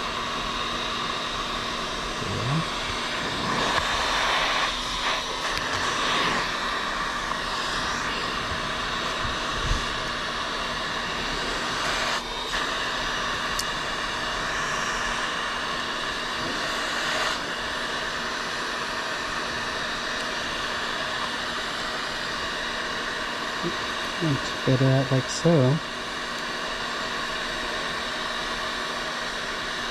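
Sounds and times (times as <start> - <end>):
heat gun fan whooshing: 0.0 - 29.9.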